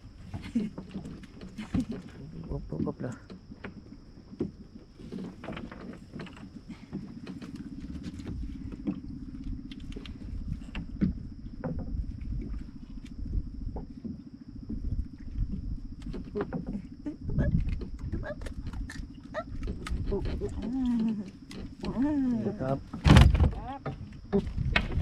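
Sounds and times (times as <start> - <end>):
boat engine pulsing hum: 0.0 - 25.0.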